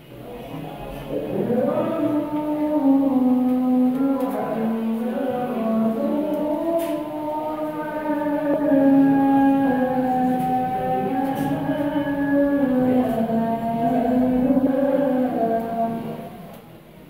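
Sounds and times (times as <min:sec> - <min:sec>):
person chanting melodically: 0:00.2 - 0:16.7.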